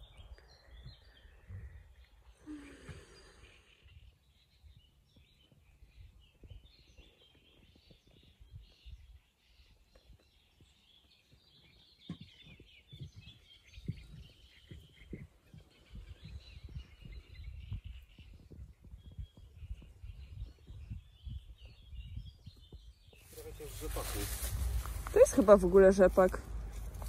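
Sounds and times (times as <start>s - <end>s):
wind buffeting microphone: 0.0s - 2.3s, 3.8s - 27.0s
songbirds chirping and singing: 0.0s - 27.0s.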